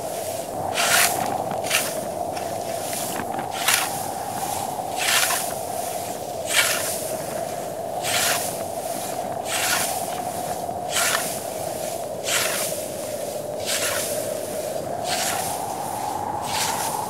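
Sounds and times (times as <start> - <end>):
sickle cutting wheat stalks: 0.0 - 17.0.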